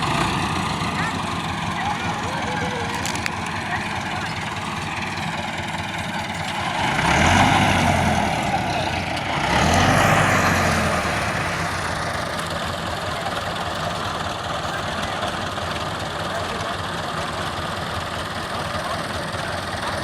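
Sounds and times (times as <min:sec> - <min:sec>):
tractor engine revving: 0:00.0 - 0:20.0.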